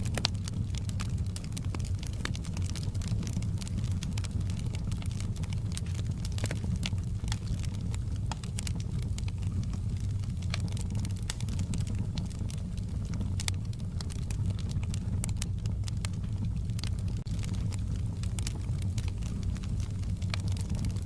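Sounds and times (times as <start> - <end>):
campfire crackling and popping: 0.0 - 21.0
low rumble of flames: 0.0 - 21.0.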